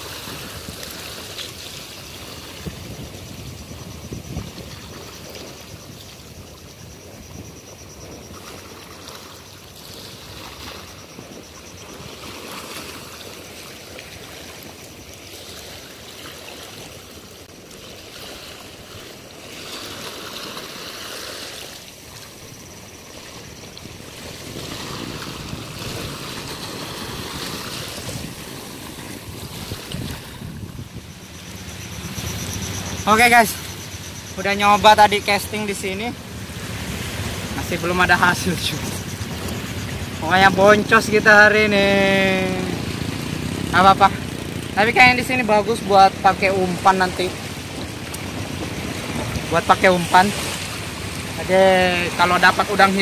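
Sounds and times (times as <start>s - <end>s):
waves washing over shore: 0.0s - 53.0s.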